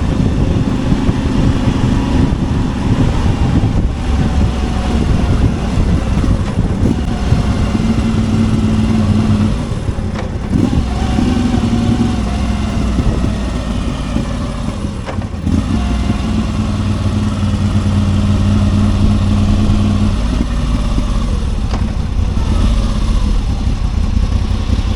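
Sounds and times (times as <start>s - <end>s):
motorcycle engine exhaust note: 0.0s - 24.9s.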